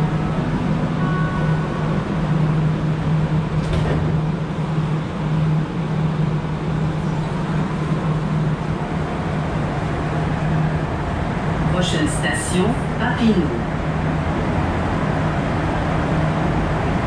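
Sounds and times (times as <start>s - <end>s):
subway train rumbling in tunnel: 0.0s - 17.0s.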